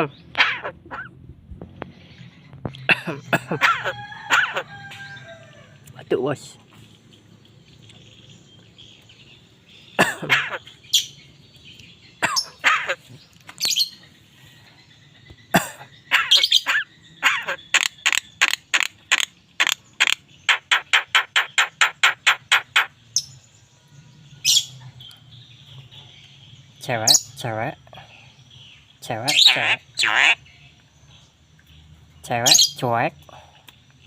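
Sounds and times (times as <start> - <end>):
bird calling: 0.0 - 6.9, 7.7 - 23.4, 24.4 - 30.8.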